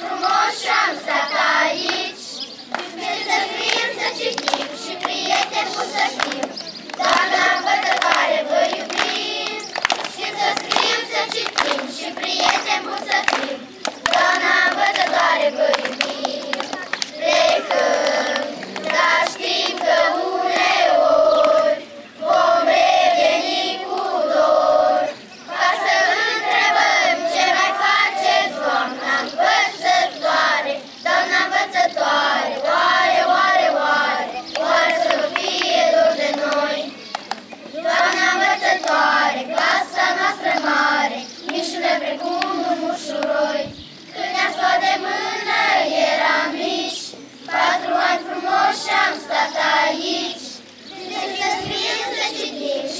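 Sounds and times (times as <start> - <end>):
children singing in unison: 0.0 - 37.0, 37.7 - 52.9.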